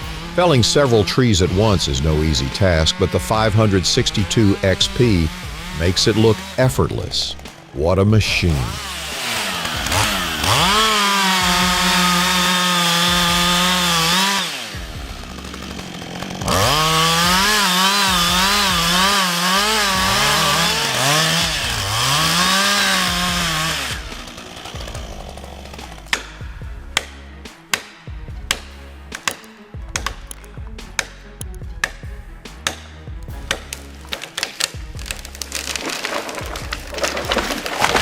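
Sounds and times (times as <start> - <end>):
chainsaw running at high revs: 0.0 - 7.8, 8.4 - 31.6, 32.6 - 38.0.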